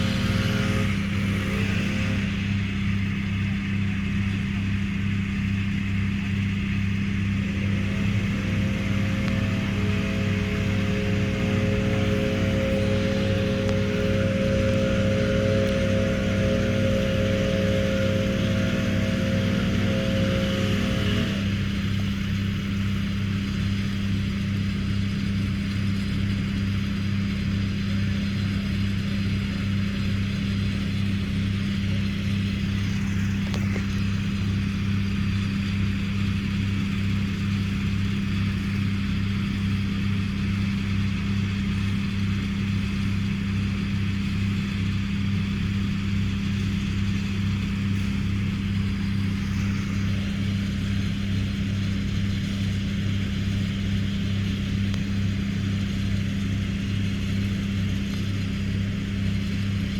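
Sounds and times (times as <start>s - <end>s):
engine droning steadily: 0.0s - 59.9s.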